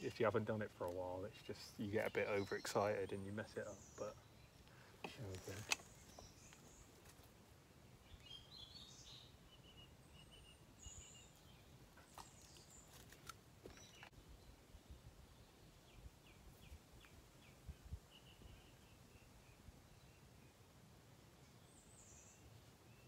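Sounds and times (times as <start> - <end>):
faint birdsong: 0.0 - 23.0.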